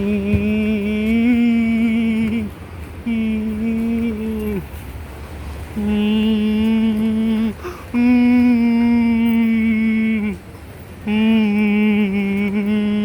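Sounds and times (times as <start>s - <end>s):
person humming held notes: 0.0s - 4.8s, 5.7s - 10.4s, 11.0s - 13.0s.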